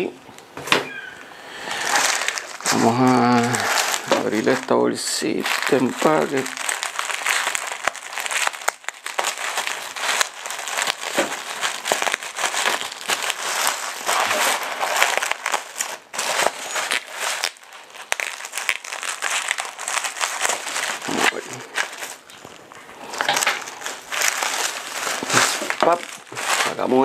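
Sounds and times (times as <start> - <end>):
bubble wrap crackling: 1.5 - 27.0.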